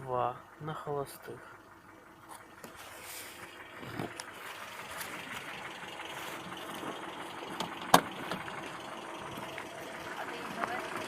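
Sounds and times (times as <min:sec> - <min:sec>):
engine idling with dull knock: 0:00.0 - 0:11.0.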